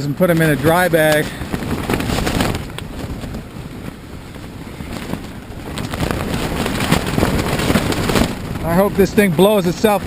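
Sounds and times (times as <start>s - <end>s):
tent fabric flapping: 0.0s - 10.0s
wind rumble on microphone: 0.0s - 10.0s.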